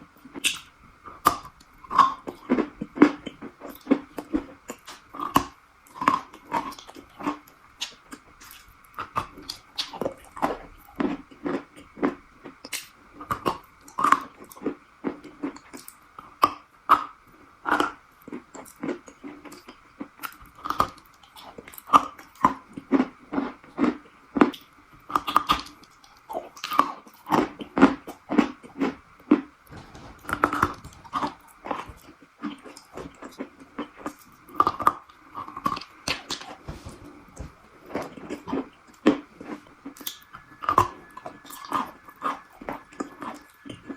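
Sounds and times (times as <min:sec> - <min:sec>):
chewing crunchy food: 0:00.2 - 0:43.9.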